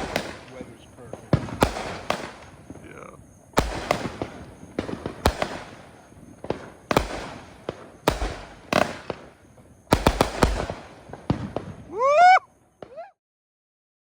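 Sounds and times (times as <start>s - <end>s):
fireworks shots: 0.0s - 13.0s.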